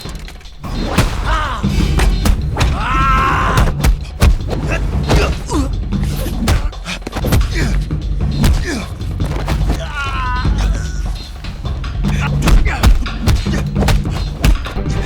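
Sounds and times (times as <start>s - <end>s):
film score music: 0.0s - 15.0s
fight blows and thuds: 0.1s - 14.9s
grunts and shouts: 0.9s - 14.8s.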